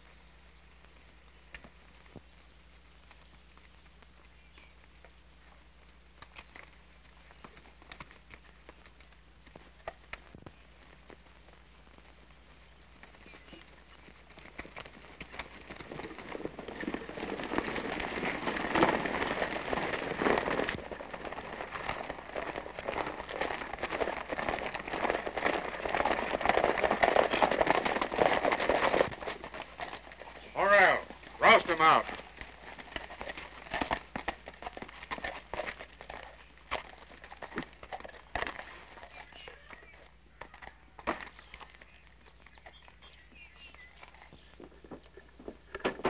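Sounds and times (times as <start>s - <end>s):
horses galloping on dirt: 0.0s - 46.0s
low hum: 0.0s - 46.0s.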